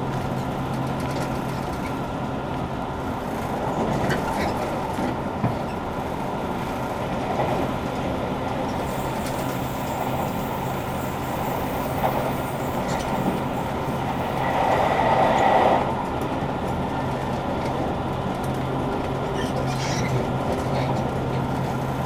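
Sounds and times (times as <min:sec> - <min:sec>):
train ride rumble: 0:00.0 - 0:22.0.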